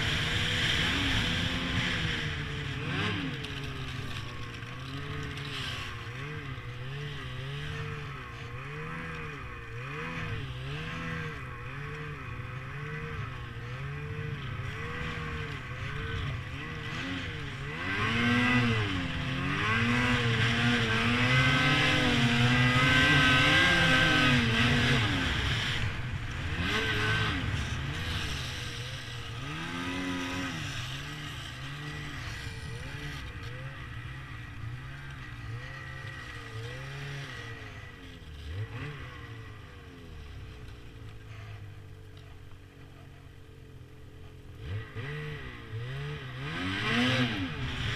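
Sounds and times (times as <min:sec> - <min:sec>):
snowmobile engine revving: 0:00.0 - 0:41.8, 0:44.4 - 0:47.9.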